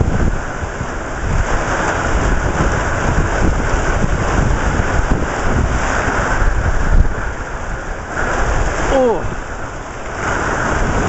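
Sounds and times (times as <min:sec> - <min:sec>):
heavy rain pouring: 0:00.0 - 0:11.0
wind buffeting microphone: 0:00.0 - 0:11.0.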